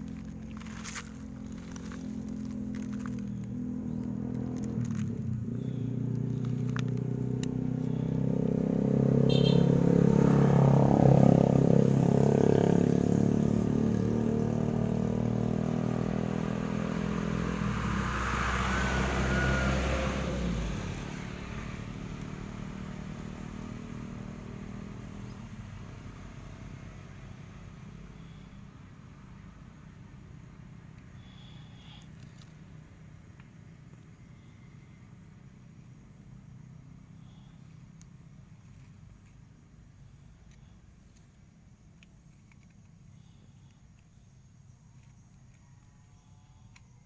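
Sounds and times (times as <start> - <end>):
engine running: 0.0 - 40.8.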